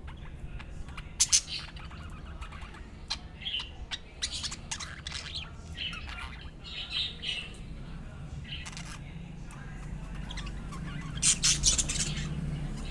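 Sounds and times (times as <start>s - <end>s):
budgies chirping and warbling: 0.0s - 12.9s.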